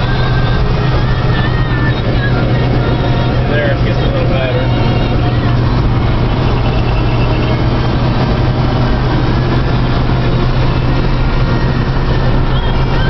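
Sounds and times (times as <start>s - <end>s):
combine engine and threshing drone: 0.0s - 13.0s.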